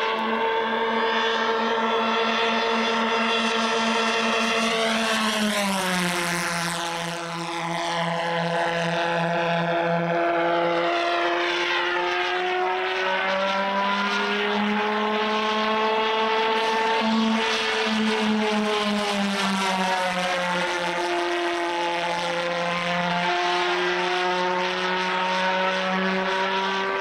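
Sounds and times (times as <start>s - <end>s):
pulsejet engines buzzing: 0.0s - 27.0s.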